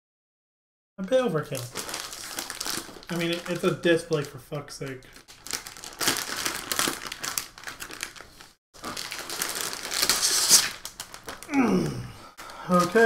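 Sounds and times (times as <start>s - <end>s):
plastic bag crinkling: 1.0s - 11.6s, 12.4s - 13.0s.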